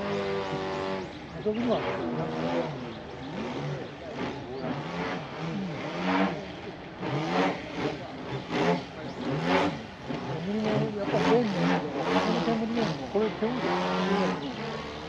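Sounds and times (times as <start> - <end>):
model plane engine: 0.0 - 15.0.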